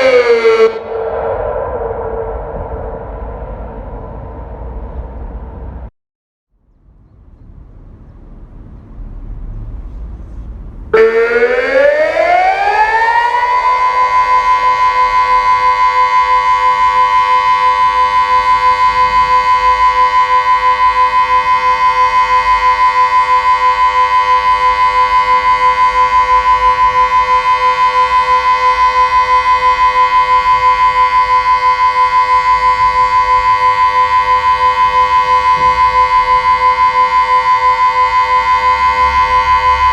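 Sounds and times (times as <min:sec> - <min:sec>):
civil defence siren steady tone: 0:00.0 - 0:05.9, 0:10.9 - 0:39.9.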